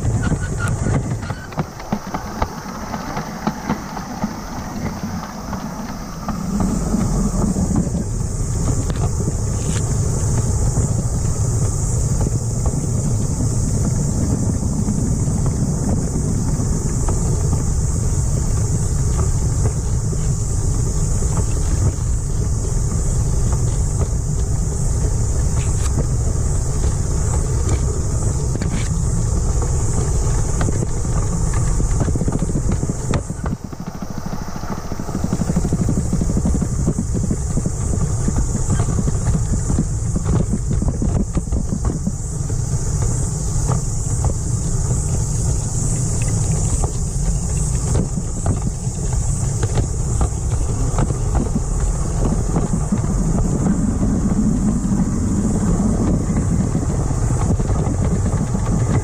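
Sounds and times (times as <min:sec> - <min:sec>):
miniature train rumbling on track: 0:00.0 - 0:59.0
wind on microphone: 0:00.0 - 0:59.0.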